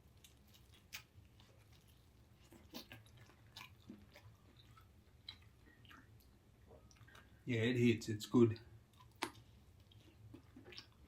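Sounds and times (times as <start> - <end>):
faint chewing with mouth clicks: 0.0 - 7.5, 8.3 - 11.0.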